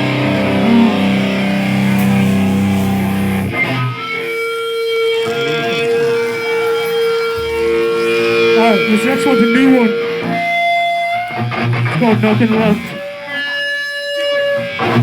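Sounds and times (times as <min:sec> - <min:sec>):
electric guitar sustained notes: 0:00.0 - 0:15.0.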